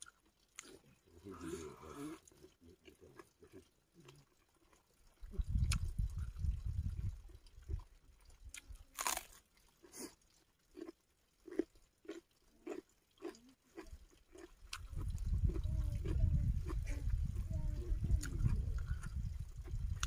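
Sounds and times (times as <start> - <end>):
mouth chewing and crunching food: 0.0 - 20.0.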